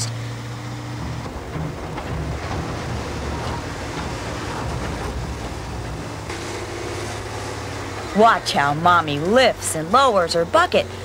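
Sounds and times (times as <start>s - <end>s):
diesel engine rumbling under load: 0.0s - 11.0s
bucket working in broken rock: 0.3s - 10.0s.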